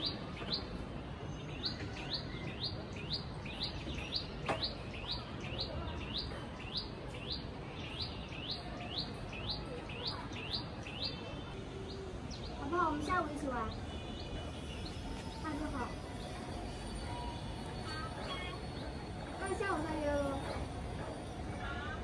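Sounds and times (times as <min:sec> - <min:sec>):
songbird chirping: 0:00.0 - 0:20.5
steady background noise: 0:00.0 - 0:22.0.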